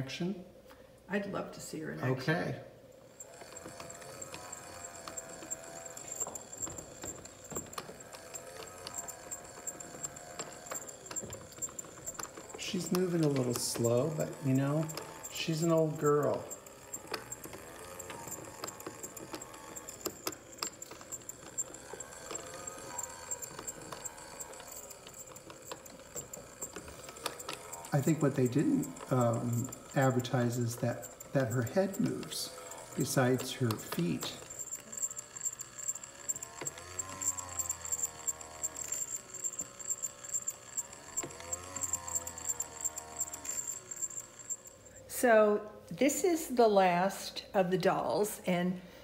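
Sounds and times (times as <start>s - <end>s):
toy mechanism whirring and clicking: 2.0s - 46.6s
droning hum: 2.8s - 45.5s.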